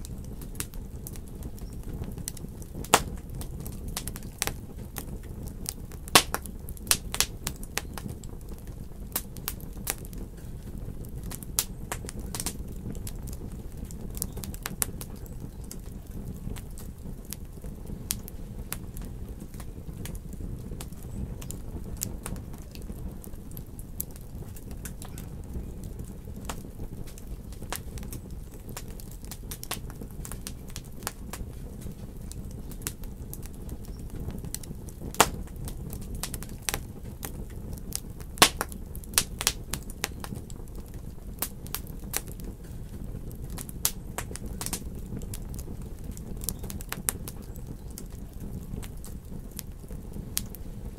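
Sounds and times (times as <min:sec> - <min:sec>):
fire snaps and pops: 0:00.0 - 0:50.9
wood fire crackling: 0:00.0 - 0:50.9.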